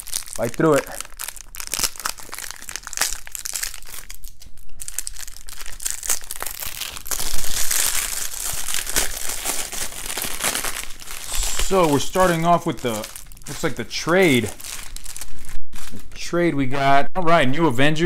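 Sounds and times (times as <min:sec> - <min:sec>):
plastic wrap crinkling and tearing: 0:00.0 - 0:16.2.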